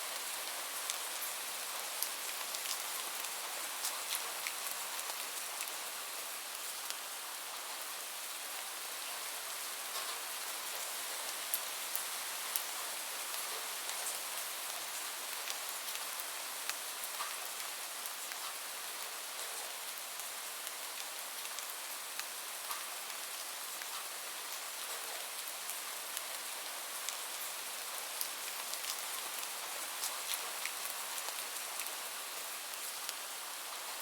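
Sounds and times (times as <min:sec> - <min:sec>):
raindrops ticking on a surface: 0:00.1 - 0:07.9, 0:09.1 - 0:34.0.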